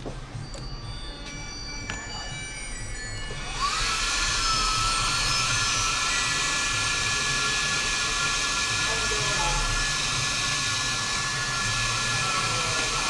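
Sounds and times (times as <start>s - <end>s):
fan spinning up with whine: 0.0s - 13.0s.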